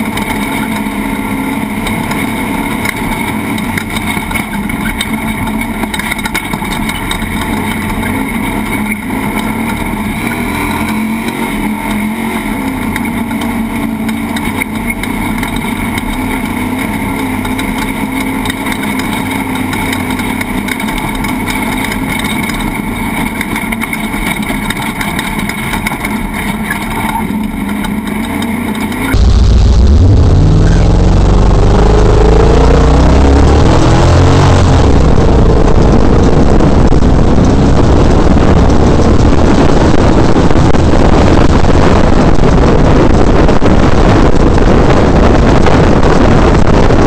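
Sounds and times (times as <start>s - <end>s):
truck driving over dirt: 0.0s - 47.0s
truck engine running under load: 0.0s - 47.0s.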